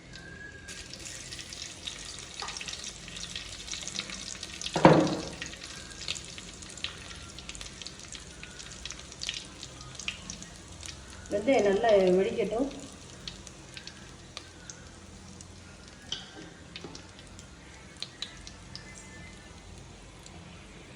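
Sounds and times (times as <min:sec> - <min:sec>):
seeds crackling in hot oil: 0:00.0 - 0:20.9.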